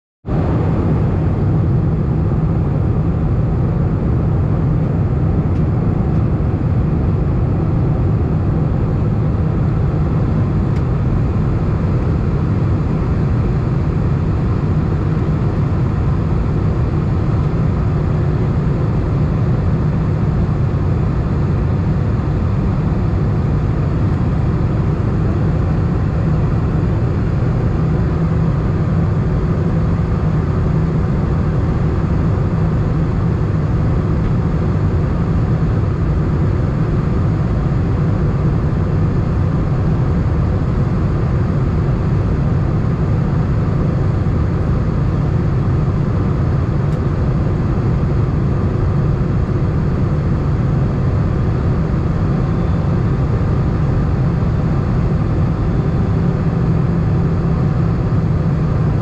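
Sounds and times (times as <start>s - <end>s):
jet engine drone in cabin: 0.2s - 59.0s.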